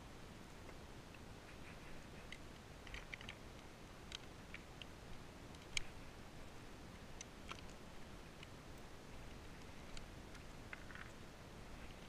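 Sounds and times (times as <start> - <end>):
faint clicks: 0.4 - 12.0.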